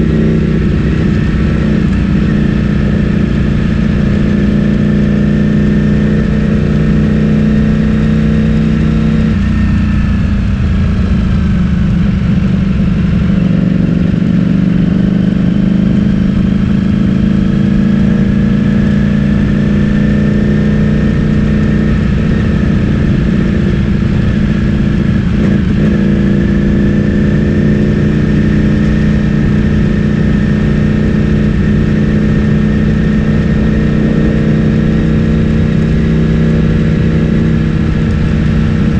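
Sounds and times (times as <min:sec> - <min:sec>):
motorcycle engine running loud: 0:00.0 - 0:38.9.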